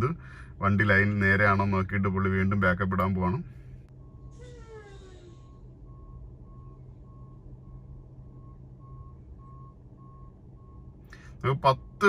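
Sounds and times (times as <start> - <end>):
truck reversing alarm beeping: 0.0 - 12.0.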